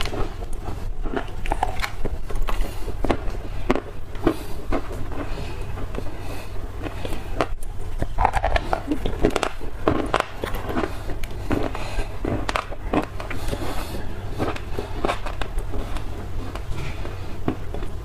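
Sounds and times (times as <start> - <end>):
chewing and crunching clay: 0.0 - 18.0
steady low hum: 0.0 - 18.0.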